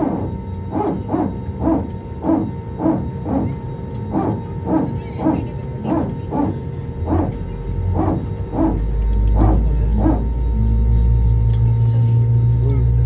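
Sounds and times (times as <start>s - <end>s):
hydraulic pump barking pulses: 0.0s - 10.6s
jet engines spooling up: 0.0s - 13.0s.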